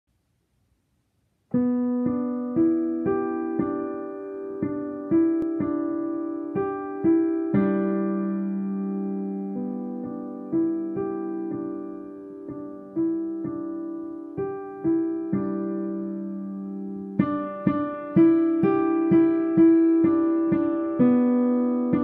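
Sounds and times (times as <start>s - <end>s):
gentle piano piece: 1.5s - 22.0s.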